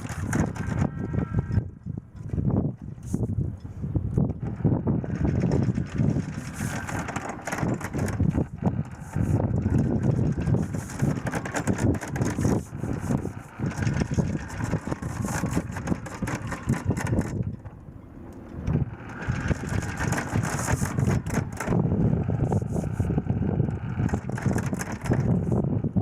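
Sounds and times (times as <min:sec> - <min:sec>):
clattery noise: 0:00.0 - 0:01.7, 0:04.2 - 0:25.7
diesel engine running: 0:00.0 - 0:26.0.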